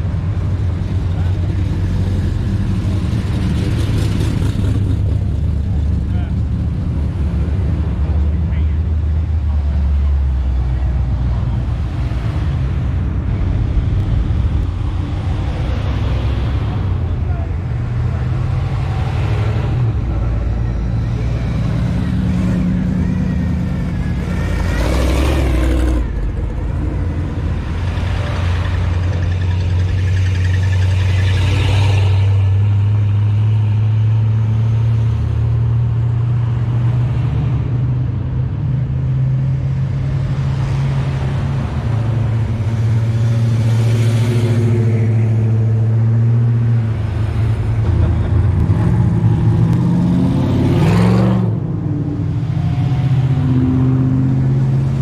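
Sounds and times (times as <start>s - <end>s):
pickup truck engines passing: 0.0s - 55.0s.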